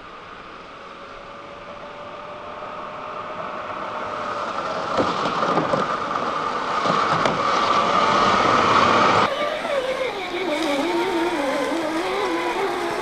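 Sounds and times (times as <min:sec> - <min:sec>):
electric motor and gear whine: 0:00.0 - 0:13.0.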